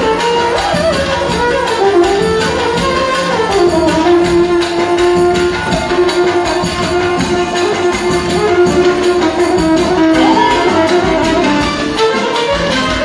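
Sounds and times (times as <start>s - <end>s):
bass drum beat: 0.0s - 13.0s
violin melody with sliding notes: 0.0s - 13.0s.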